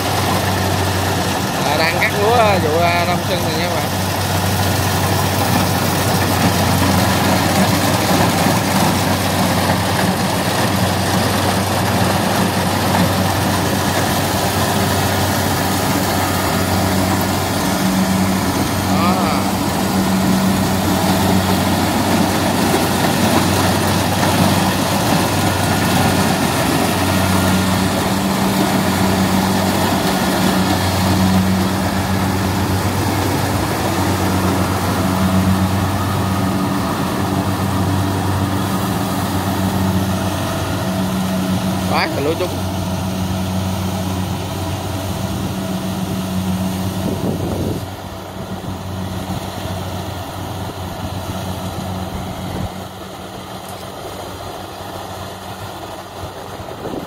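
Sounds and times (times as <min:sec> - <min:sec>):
diesel engine drone: 0:00.0 - 0:57.0
harvester machinery noise: 0:00.0 - 0:57.0.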